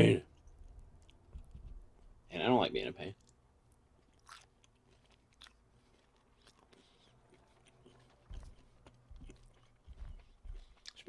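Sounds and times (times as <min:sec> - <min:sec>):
chewing with wet mouth clicks: 0:00.3 - 0:01.6, 0:03.1 - 0:11.0.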